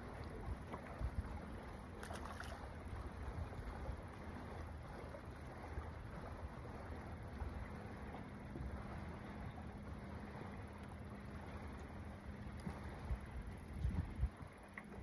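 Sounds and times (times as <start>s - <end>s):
motorboat engine rumbling: 0.0s - 15.0s.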